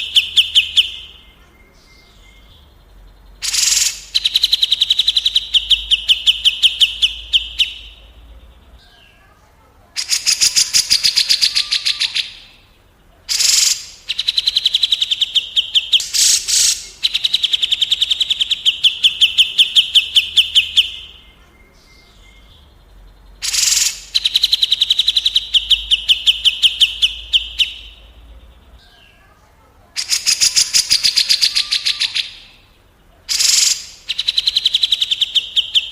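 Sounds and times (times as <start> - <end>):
songbird trilling: 0.0 - 9.3, 10.0 - 12.6, 13.3 - 29.4, 30.0 - 32.7, 33.3 - 35.9.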